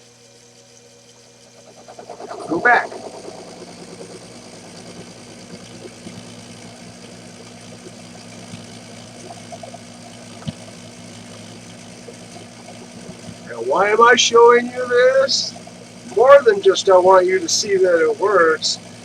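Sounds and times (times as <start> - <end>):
metal lathe motor humming: 0.5 - 19.0.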